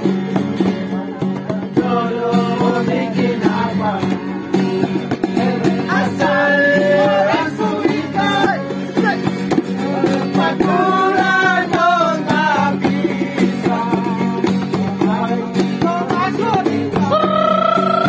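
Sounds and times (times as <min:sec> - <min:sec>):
strummed acoustic guitars: 0:00.0 - 0:18.0
men singing together: 0:00.8 - 0:18.0.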